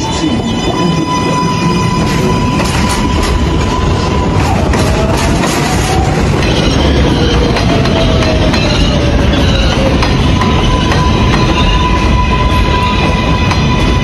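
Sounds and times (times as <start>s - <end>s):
rumble of wheels on rails: 0.0s - 14.0s.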